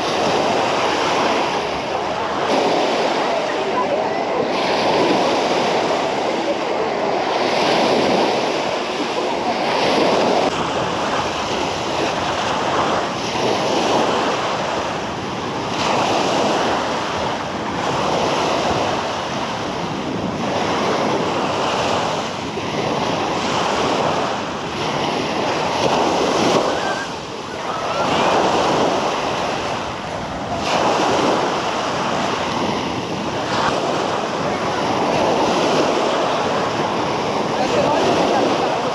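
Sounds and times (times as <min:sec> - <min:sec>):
small waves breaking on a beach: 0:00.0 - 0:38.9.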